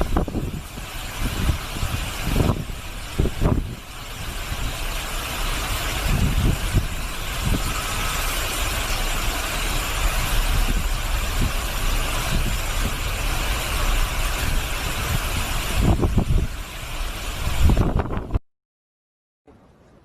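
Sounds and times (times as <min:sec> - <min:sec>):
strong wind blowing: 0:00.0 - 0:18.4
wind gusts buffeting microphone: 0:00.0 - 0:18.4.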